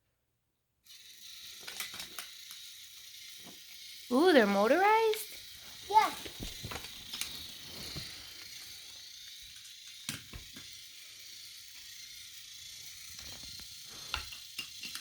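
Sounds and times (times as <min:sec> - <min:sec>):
toy train motor whir: 0:00.8 - 0:15.0.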